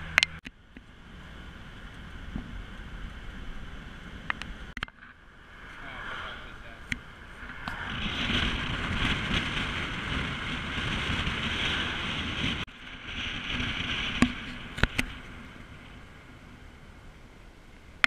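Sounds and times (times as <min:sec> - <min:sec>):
car road noise: 0:00.0 - 0:18.0
wind on microphone: 0:00.0 - 0:18.0.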